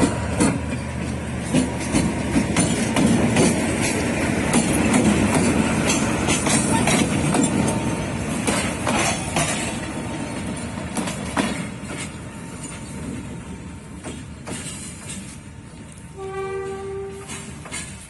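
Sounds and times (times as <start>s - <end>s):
wheel clacks over rail joints: 0.0s - 16.0s, 16.6s - 18.0s
freight train rumble: 0.0s - 18.0s.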